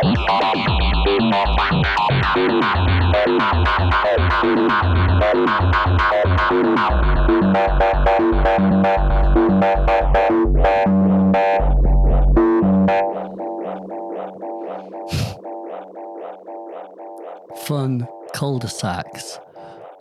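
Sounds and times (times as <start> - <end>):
synth bass line: 0.0 - 20.0
synthesizer plucky sequenced notes: 0.0 - 20.0.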